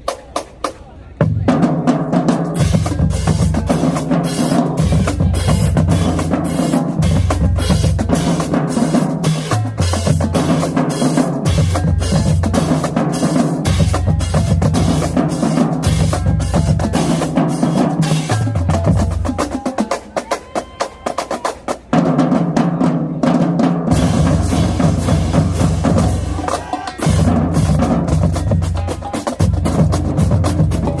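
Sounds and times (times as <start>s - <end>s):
marching drumline cadence: 0.0s - 31.0s.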